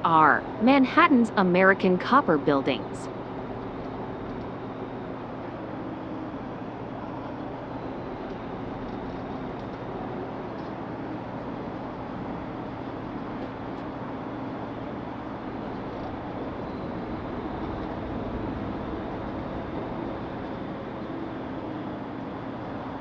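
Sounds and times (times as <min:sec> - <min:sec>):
ferry engines droning: 0:00.0 - 0:23.0.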